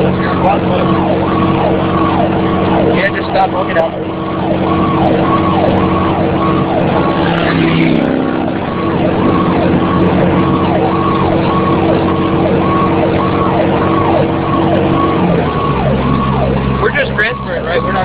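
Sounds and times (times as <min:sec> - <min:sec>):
fire engine siren cycling: 0:00.0 - 0:18.0
truck engine running: 0:00.0 - 0:18.0.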